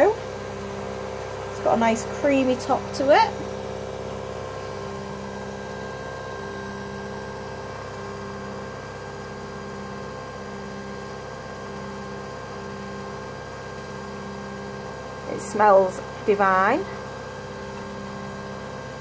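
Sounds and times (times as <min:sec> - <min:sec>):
coffee machine humming: 0:00.0 - 0:19.0.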